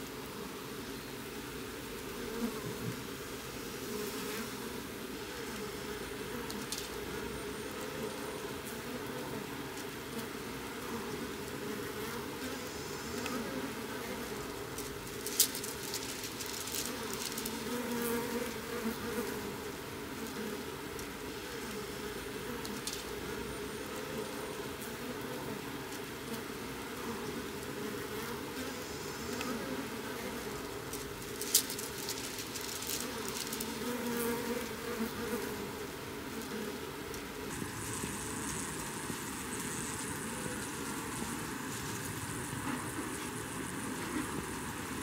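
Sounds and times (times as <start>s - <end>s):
bees humming: 0.1s - 45.0s.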